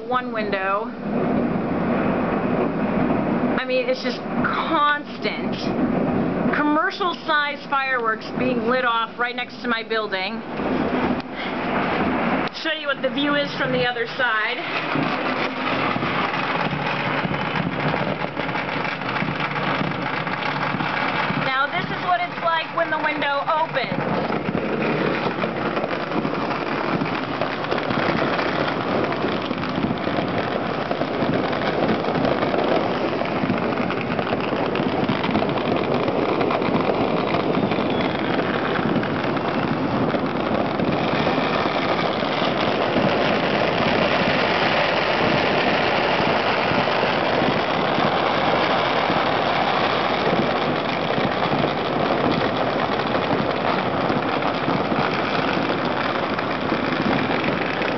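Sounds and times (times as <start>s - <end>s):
fireworks and firecrackers: 0.0s - 57.9s.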